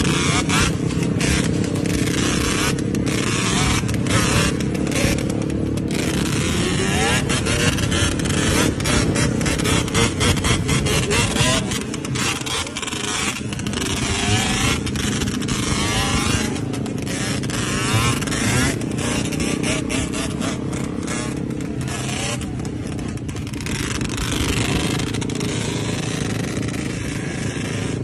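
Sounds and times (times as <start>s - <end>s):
continuous rush of noise: 0.0s - 28.0s
two-stroke engine running: 0.0s - 28.0s.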